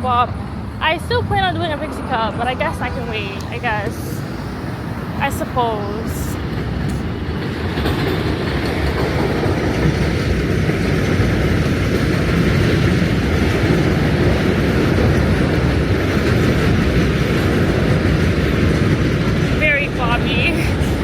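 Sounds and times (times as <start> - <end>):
subway train rumbling: 0.0 - 21.0.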